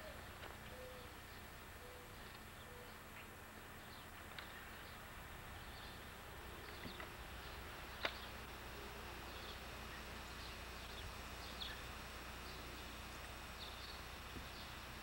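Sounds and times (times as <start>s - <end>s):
birds chirping faintly: 0.0s - 15.0s
steady hiss: 0.0s - 15.0s.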